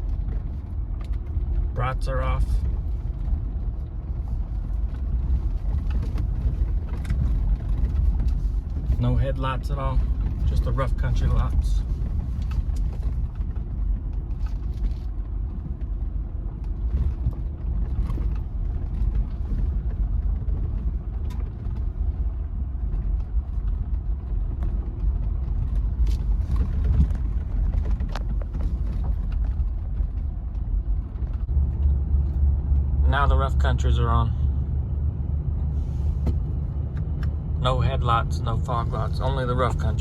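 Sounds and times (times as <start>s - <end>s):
vehicle engine rumble: 0.0s - 40.0s.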